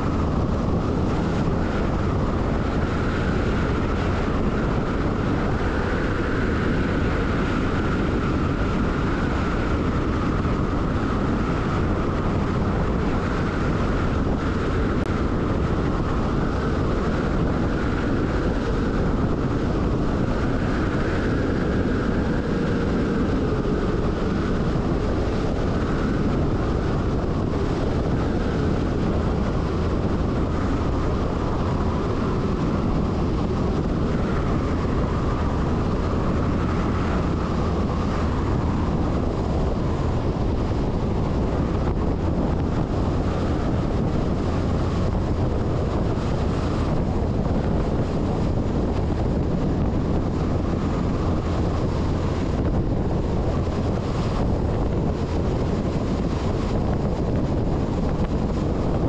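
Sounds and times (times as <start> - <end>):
truck diesel engine cruising: 0.0 - 59.0
wind on microphone: 0.0 - 59.0.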